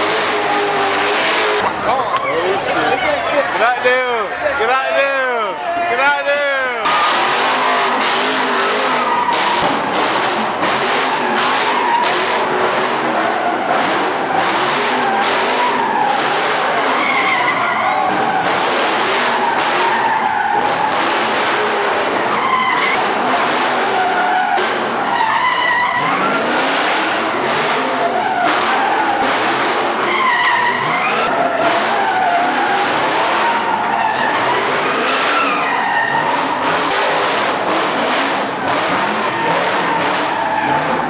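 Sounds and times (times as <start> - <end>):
car engine revving: 0.0 - 41.0
car tyres screeching: 0.0 - 41.0.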